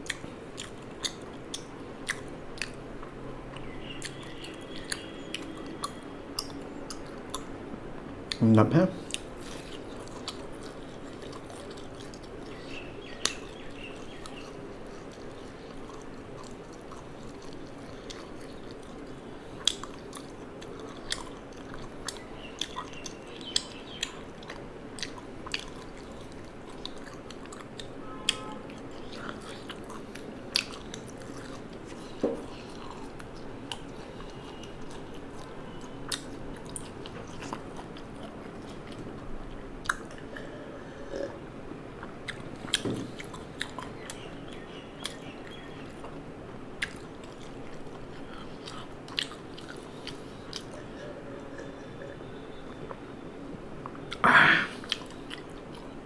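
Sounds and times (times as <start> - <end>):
chewing: 0.0 - 7.6, 9.0 - 41.4, 42.0 - 46.2, 46.8 - 53.1, 54.8 - 56.0
steady low hum: 0.0 - 56.0.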